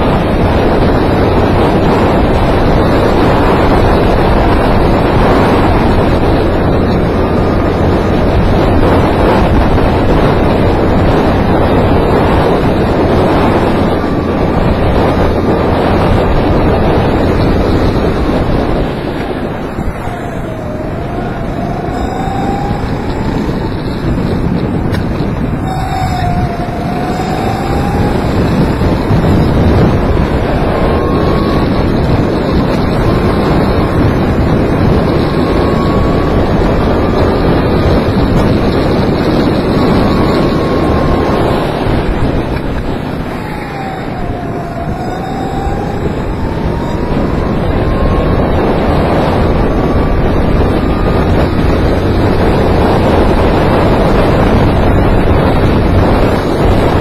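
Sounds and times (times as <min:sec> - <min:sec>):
kart engine at full throttle: 0:00.0 - 0:57.0
wind noise on microphone: 0:00.0 - 0:57.0.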